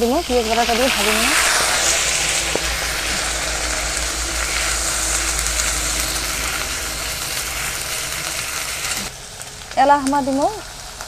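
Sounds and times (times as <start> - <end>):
onion paste sizzling in oil: 0.0 - 11.0.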